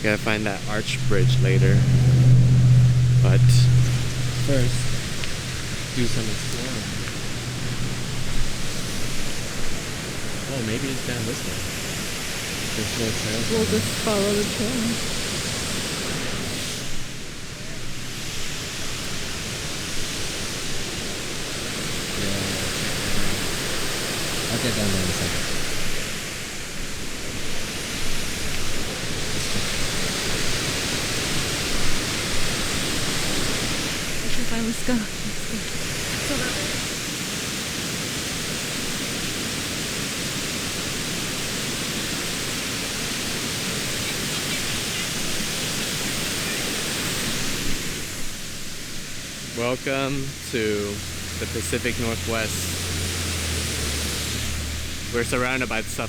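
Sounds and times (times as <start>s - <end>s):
rushing water hiss: 0.0s - 56.0s.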